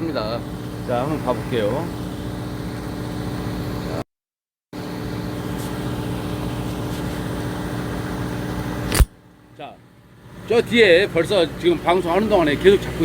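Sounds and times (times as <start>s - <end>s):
boat motor droning: 0.0s - 4.0s, 4.8s - 9.0s, 9.6s - 13.0s.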